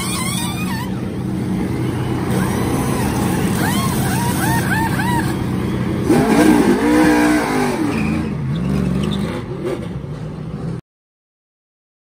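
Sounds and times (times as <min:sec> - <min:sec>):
race truck engine revving: 0:00.0 - 0:10.0.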